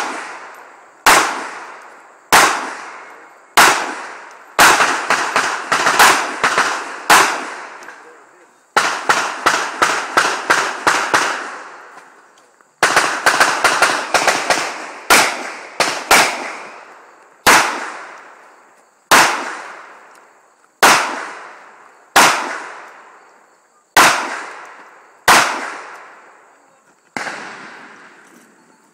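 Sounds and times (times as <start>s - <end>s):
pistol shots echoing: 0.0s - 8.1s, 8.8s - 11.8s, 12.8s - 18.5s, 19.1s - 20.2s, 20.8s - 23.2s, 24.0s - 26.3s, 27.2s - 28.2s.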